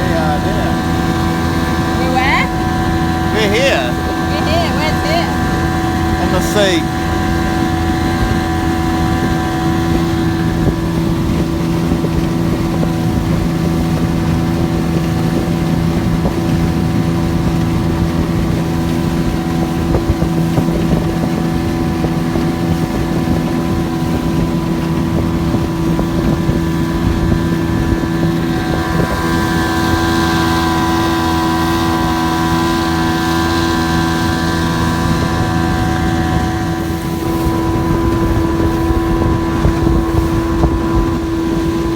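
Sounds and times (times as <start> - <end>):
motorboat engine running: 0.0 - 41.9
wind rushing on microphone: 0.0 - 41.9.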